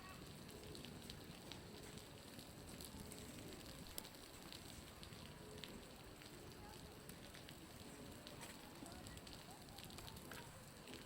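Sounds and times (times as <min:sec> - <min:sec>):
water dripping from roof: 0:00.0 - 0:11.0.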